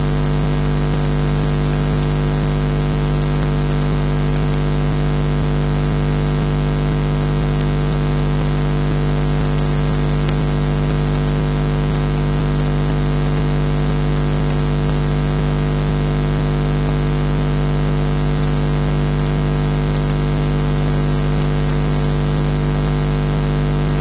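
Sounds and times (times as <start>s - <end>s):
electrical hum: 0.0s - 24.0s
faint crackling clicks: 0.0s - 24.0s.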